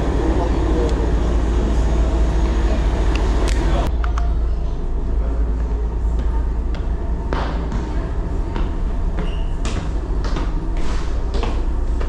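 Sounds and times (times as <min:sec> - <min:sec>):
moving vehicle low rumble: 0:00.0 - 0:12.0.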